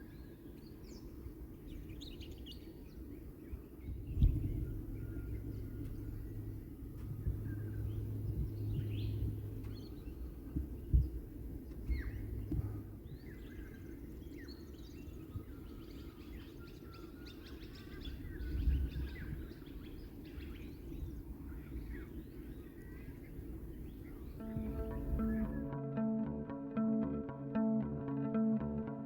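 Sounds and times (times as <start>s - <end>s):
whistled bird notes: 0.0s - 11.2s, 11.8s - 25.8s
birds chirping and calling: 0.0s - 25.8s
low outdoor rumble: 0.0s - 29.0s.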